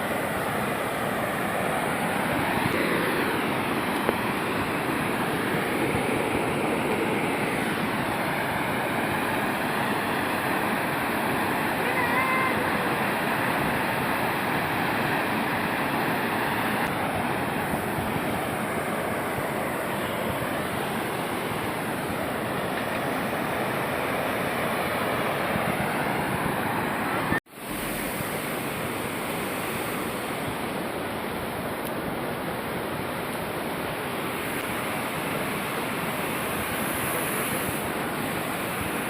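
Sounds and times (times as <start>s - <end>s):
water rushing over a dam: 0.0s - 39.0s.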